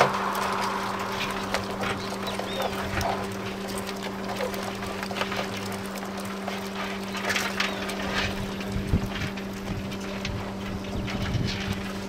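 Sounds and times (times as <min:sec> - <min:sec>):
crabs scrabbling on plastic: 0:00.0 - 0:12.0
steady motor hum: 0:00.0 - 0:12.0.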